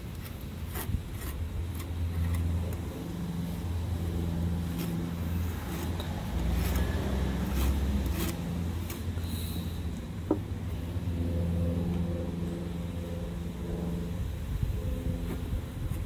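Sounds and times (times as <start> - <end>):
spatula scraping paste on muffler: 0.0 - 13.2.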